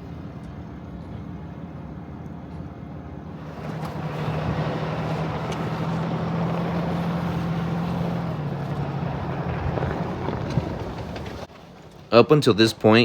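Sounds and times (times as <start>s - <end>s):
diesel truck engine pulling: 0.0s - 13.0s.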